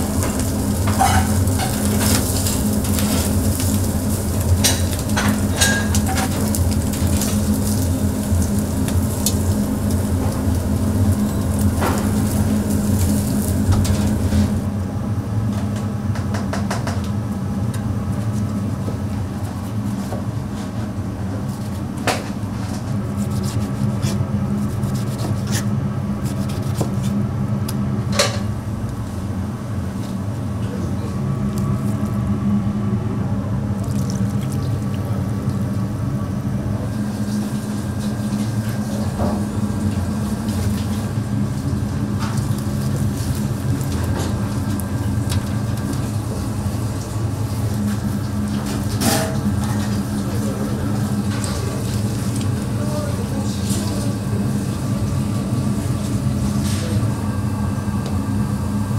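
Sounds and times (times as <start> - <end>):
low mechanical hum: 0.0 - 58.9.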